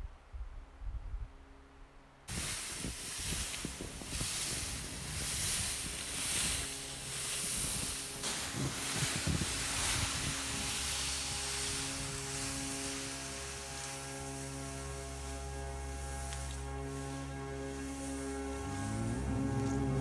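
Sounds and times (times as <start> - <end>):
plastic sled scraping over snow: 2.3 - 20.0
snow crunching: 2.3 - 20.0.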